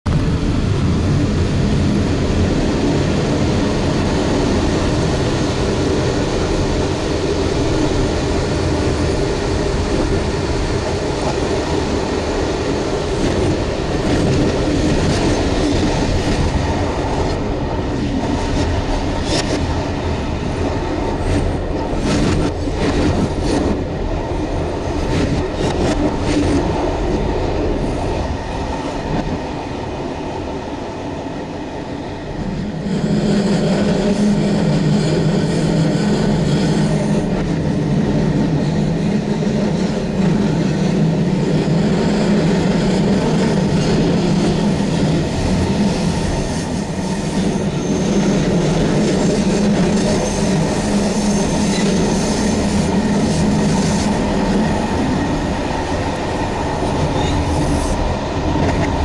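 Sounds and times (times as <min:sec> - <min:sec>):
train running gear rumble: 0:00.1 - 0:59.0.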